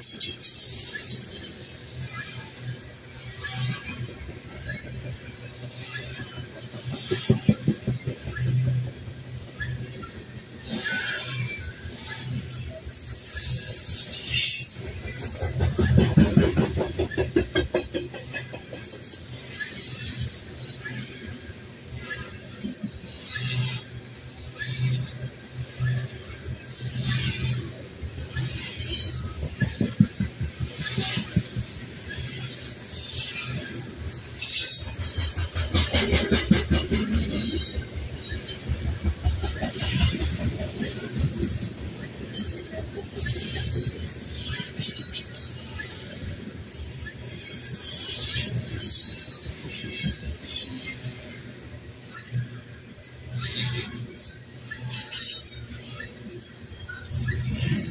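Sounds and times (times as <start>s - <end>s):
train wheels rolling on rails: 0.0s - 57.9s
wheels clicking over rail joints: 3.4s - 21.4s, 22.0s - 51.3s.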